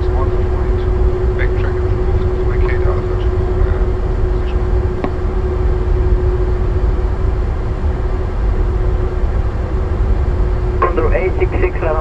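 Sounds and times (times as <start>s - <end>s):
airplane landing roll rumble: 0.0s - 12.0s
constant hum: 0.0s - 12.0s.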